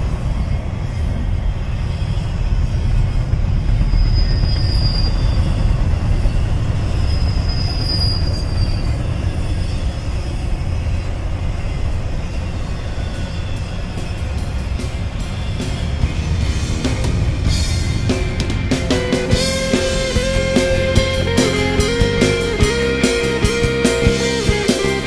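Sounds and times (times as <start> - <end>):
freight train wheels rumbling on rail: 0.0 - 25.0
high wheel squeal: 0.0 - 25.0.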